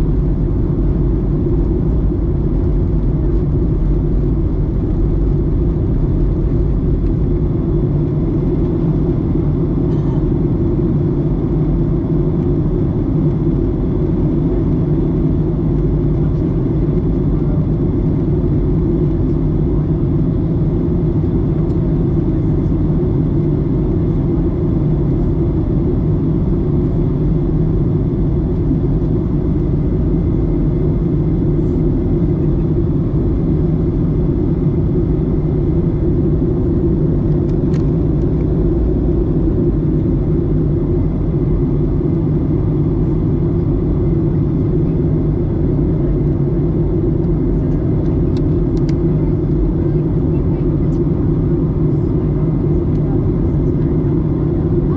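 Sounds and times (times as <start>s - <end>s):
airplane cabin rumble: 0.0s - 54.9s.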